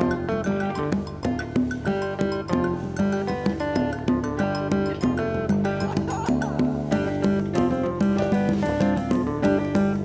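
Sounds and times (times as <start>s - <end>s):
acoustic guitar plucked: 0.0s - 10.0s.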